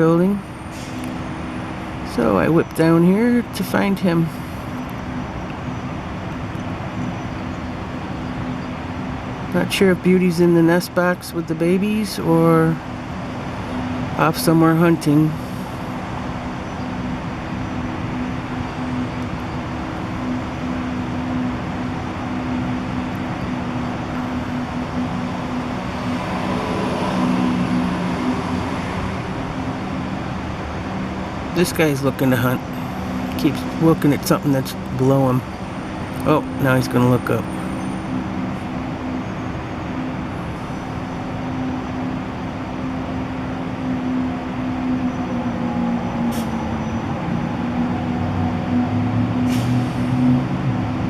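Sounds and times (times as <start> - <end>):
constant low hum: 0.0 - 51.0
urban traffic noise: 0.0 - 51.0.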